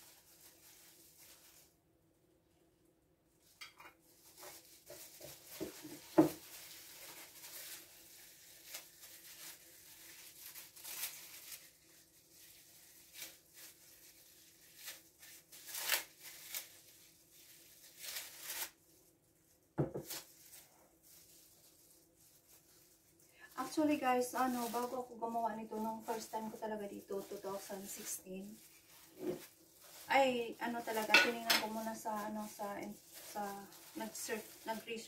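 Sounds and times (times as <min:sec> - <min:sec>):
rustling and scraping: 0:03.4 - 0:18.8, 0:19.8 - 0:35.0.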